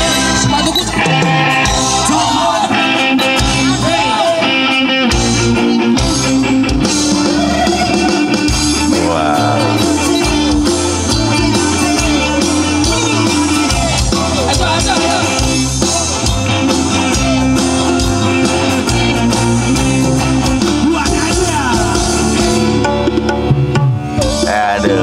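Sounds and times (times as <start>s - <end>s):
song with singer and band: 0.0s - 25.0s.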